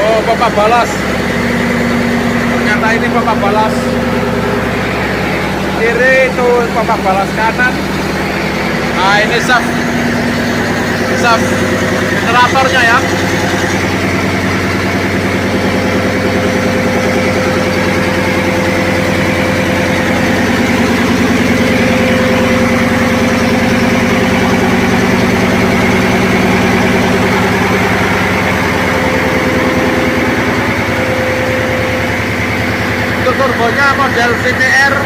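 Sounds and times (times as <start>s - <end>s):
diesel machinery din: 0.0s - 35.0s
steady machinery hum: 0.0s - 35.0s.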